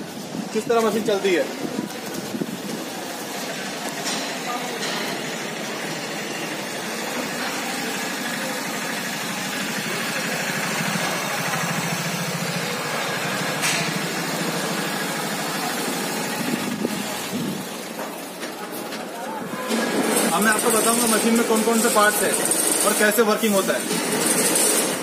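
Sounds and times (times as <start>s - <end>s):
mill machine running: 0.0s - 25.0s.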